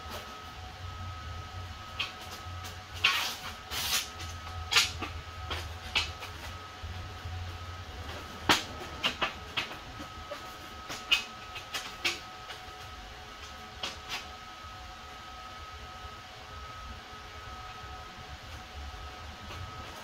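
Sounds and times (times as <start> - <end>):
electrical hum: 0.0 - 20.0
thin high whine: 0.0 - 20.0.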